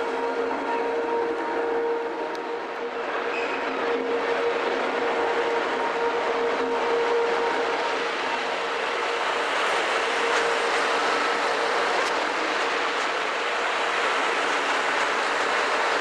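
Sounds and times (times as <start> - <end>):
rail grinding train whine: 0.0 - 16.0
train wheel and running noise: 0.0 - 16.0.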